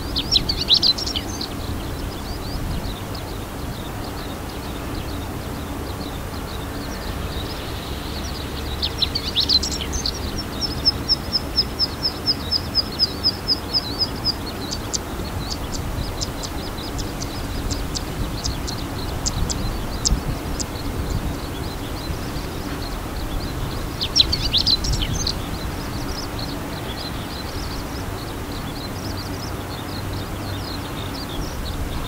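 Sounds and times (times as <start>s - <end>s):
bunting singing: 0.0s - 32.0s
skylarks and cisticolas singing: 0.0s - 32.0s.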